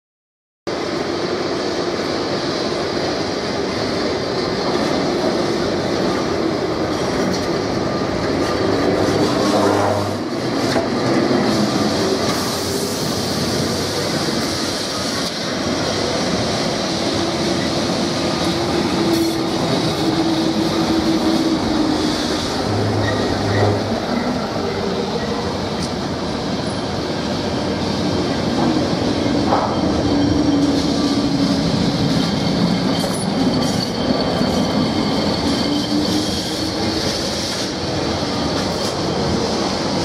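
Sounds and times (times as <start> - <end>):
tram wheels rumbling on rails: 0.7 - 40.0.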